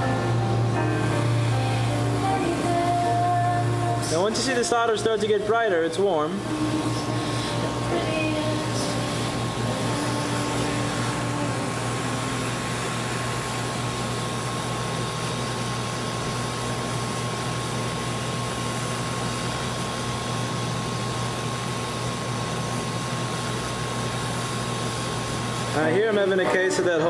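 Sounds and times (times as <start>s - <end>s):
fan hiss: 0.0s - 27.0s
thin steady whine: 0.0s - 27.0s.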